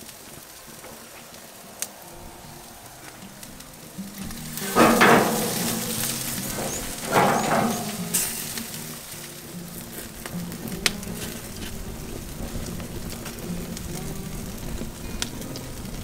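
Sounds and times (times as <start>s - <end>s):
coals crackling and popping: 0.0s - 16.0s
meat sizzling on a grill: 0.0s - 16.0s.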